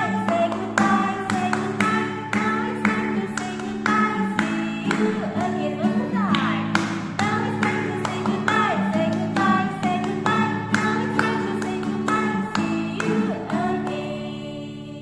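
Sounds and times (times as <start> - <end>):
acoustic guitar strumming: 0.0 - 15.0
women singing: 0.0 - 15.0.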